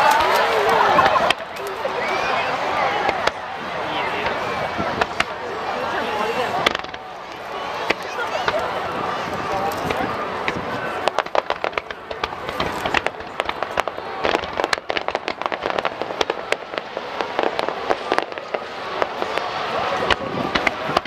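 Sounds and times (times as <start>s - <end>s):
fireworks cracking and banging: 2.9s - 21.0s.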